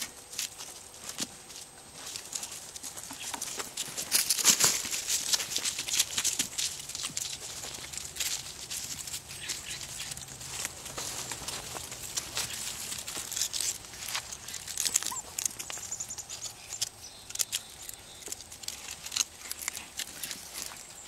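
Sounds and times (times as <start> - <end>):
dry leaves and twigs crackling: 0.0 - 21.0.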